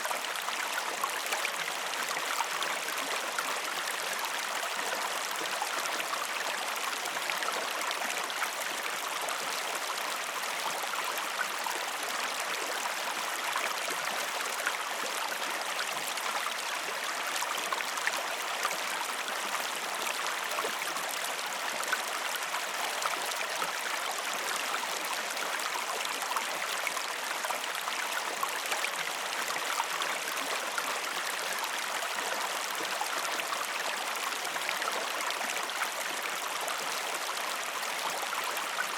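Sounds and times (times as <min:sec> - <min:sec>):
stream flowing and babbling: 0:00.0 - 0:38.9.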